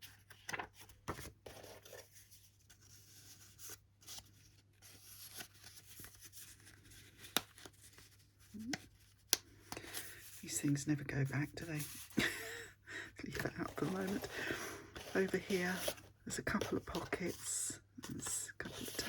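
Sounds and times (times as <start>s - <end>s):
paper and card rustling: 0.0s - 12.4s, 13.3s - 19.0s.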